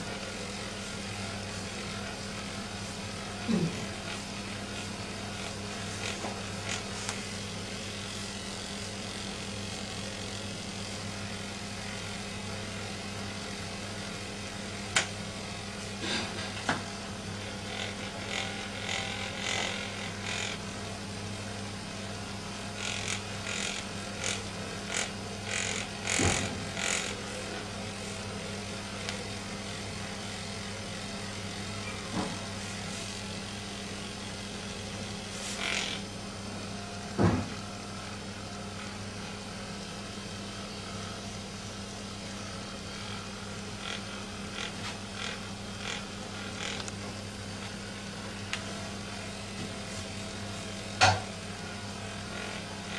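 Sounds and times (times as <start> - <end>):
electric massager humming: 0.0 - 52.9.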